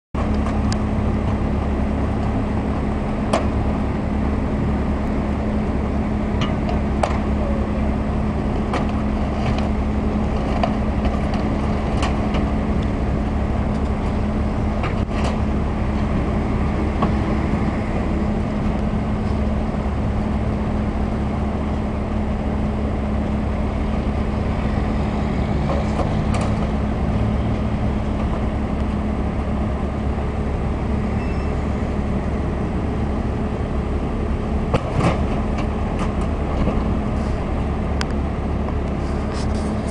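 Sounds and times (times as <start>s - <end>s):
diesel engine running under load: 0.2s - 39.9s.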